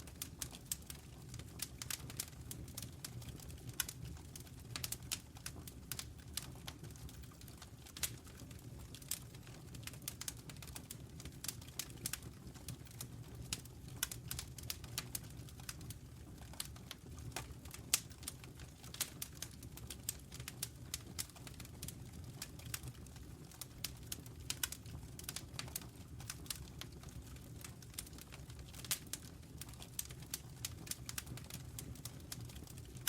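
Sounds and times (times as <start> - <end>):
low rumble of flames: 0.0 - 33.0
wood fire crackling and popping: 0.0 - 33.0.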